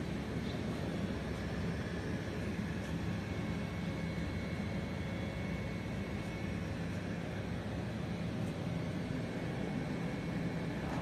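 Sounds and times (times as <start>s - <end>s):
fume extractor blower humming: 0.0s - 11.0s.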